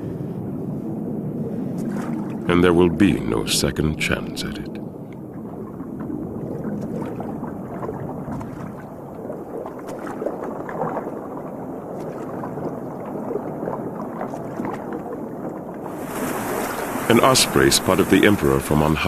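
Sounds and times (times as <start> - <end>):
water splashing and churning: 0.8 - 19.0.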